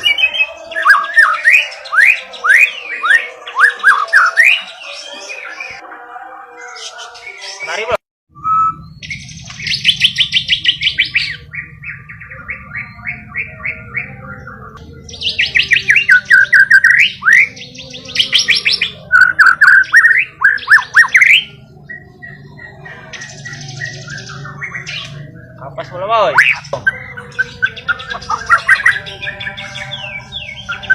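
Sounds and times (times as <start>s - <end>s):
bird singing: 0.0s - 5.8s, 6.5s - 30.9s.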